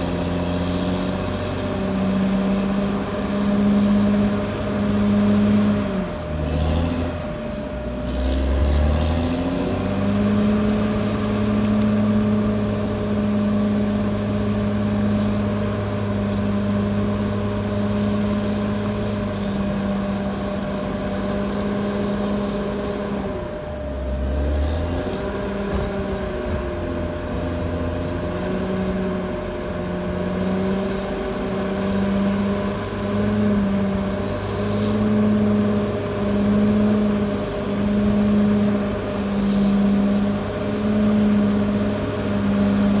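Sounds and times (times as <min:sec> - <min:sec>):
bulldozer diesel engine revving: 0:00.0 - 0:43.0
steady whine: 0:00.0 - 0:43.0.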